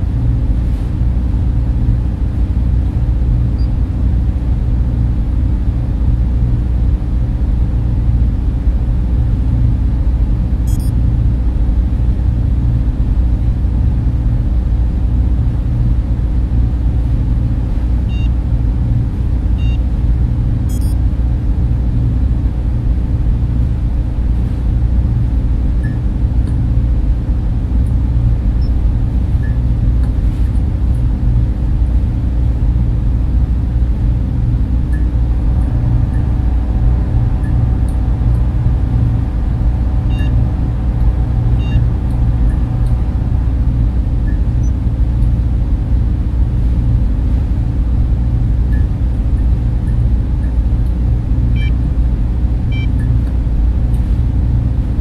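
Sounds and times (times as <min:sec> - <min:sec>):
cooling fans droning: 0:00.0 - 0:55.0.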